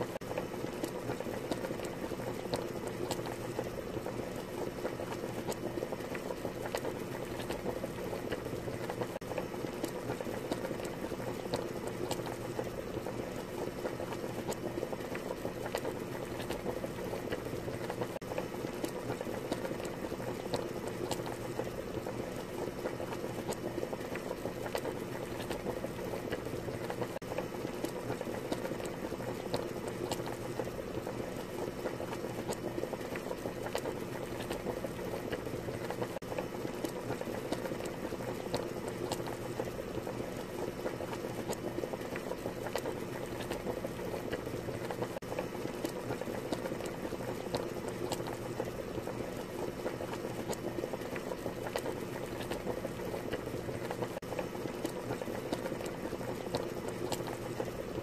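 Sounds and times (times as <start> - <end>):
broth boiling and bubbling: 0.0 - 58.0.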